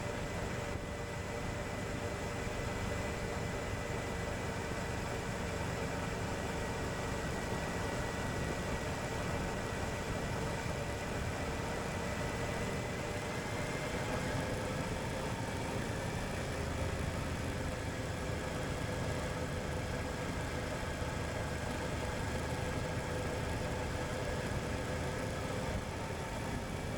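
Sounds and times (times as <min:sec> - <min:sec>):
wind and road noise: 0:00.0 - 0:26.9.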